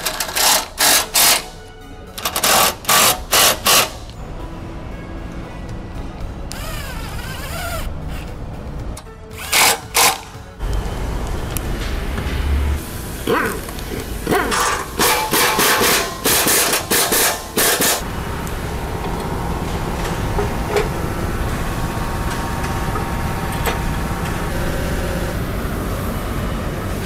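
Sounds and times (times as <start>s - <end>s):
low workshop hum: 0.0s - 27.0s.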